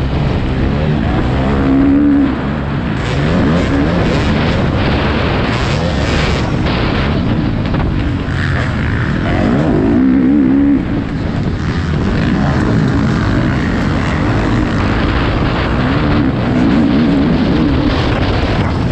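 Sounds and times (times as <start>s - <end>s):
motocross bike engine revving: 0.0s - 18.9s.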